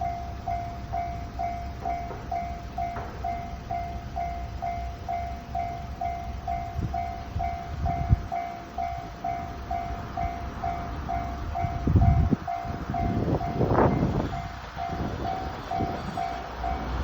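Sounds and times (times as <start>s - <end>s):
level crossing warning bell ringing: 0.0s - 17.0s.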